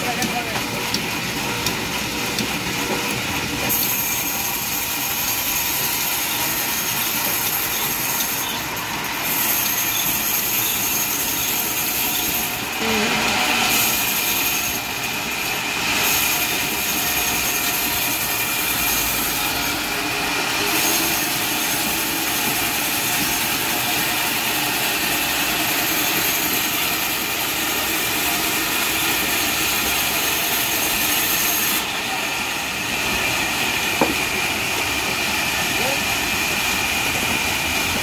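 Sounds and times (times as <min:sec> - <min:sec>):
band saw cutting wood: 0:00.0 - 0:38.0.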